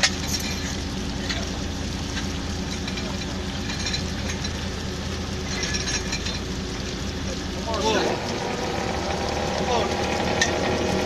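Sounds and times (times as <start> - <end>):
boat engine and machinery humming: 0.0 - 11.0.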